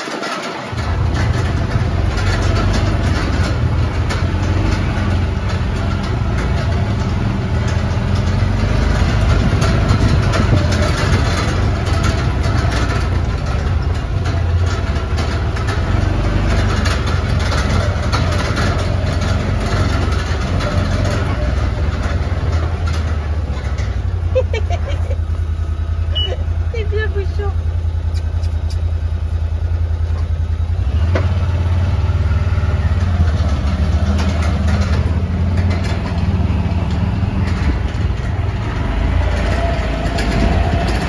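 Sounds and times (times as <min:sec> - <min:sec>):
jeep engine running: 0:00.0 - 0:41.0.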